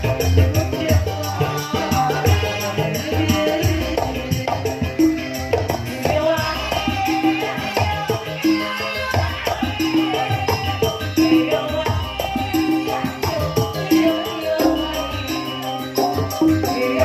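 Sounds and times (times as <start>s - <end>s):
steady percussion beat: 0.0s - 17.0s.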